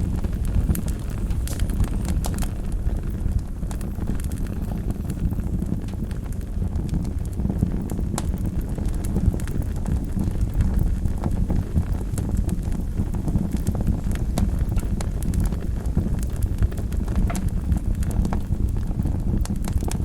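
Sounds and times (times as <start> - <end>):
fire flames roaring: 0.0 - 20.0
wood fire crackling and popping: 0.0 - 20.0.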